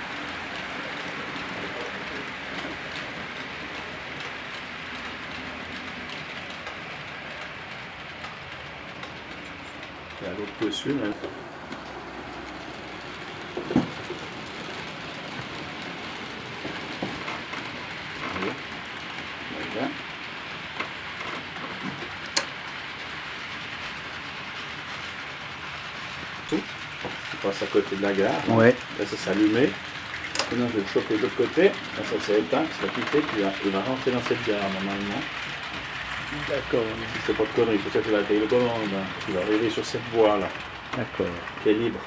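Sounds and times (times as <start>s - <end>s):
model train wheels rolling: 0.0s - 42.0s.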